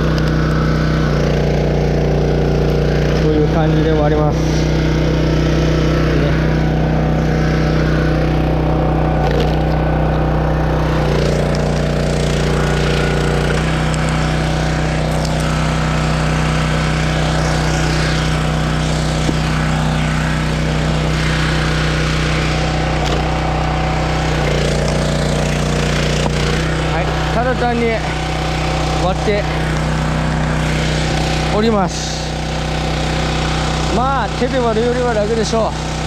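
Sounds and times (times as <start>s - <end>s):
log splitter engine running: 0.0s - 36.0s.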